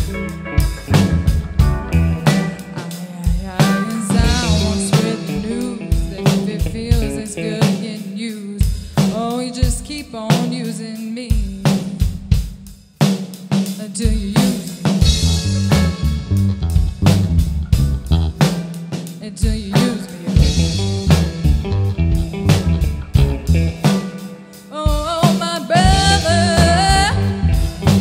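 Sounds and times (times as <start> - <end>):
drums: 0.0 - 28.0
live band playing: 0.0 - 28.0.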